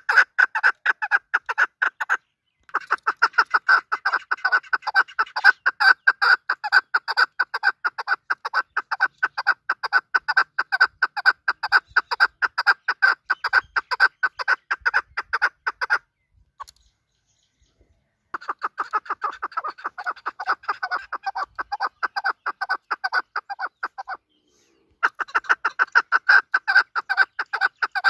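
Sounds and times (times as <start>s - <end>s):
partridge calling: 0.0s - 28.0s.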